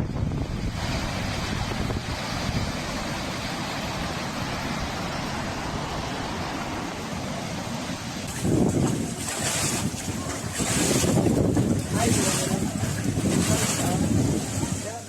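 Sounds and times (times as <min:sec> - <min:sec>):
wind: 0:00.0 - 0:15.0
rushing water: 0:00.4 - 0:15.0.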